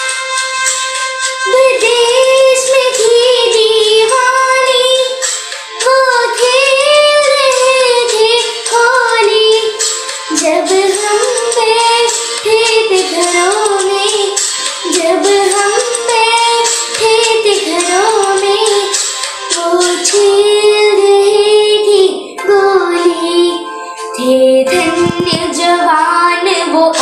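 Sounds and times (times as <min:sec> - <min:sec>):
girl singing: 0:01.4 - 0:27.0.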